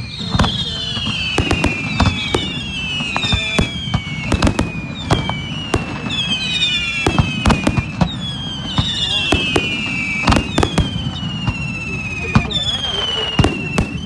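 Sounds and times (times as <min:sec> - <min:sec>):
fireworks bangs and cracks: 0:00.0 - 0:14.0
fireworks whistles sliding down: 0:00.0 - 0:14.0.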